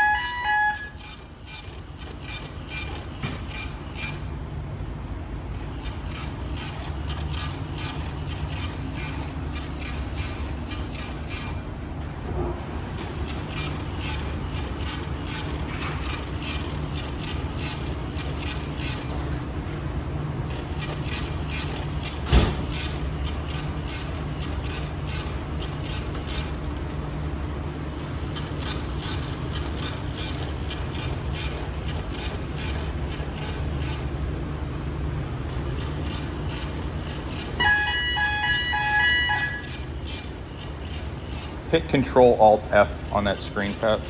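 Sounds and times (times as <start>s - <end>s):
diesel generator hum: 0.0s - 44.0s.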